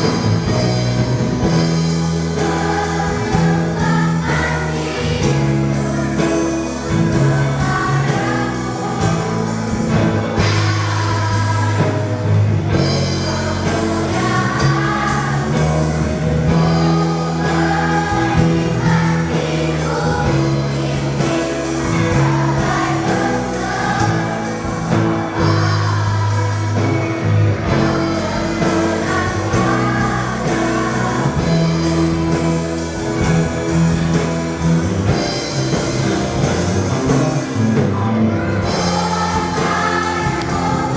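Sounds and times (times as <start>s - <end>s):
children's choir singing a hymn: 0.0s - 40.9s
instrumental accompaniment with beat: 0.0s - 40.9s.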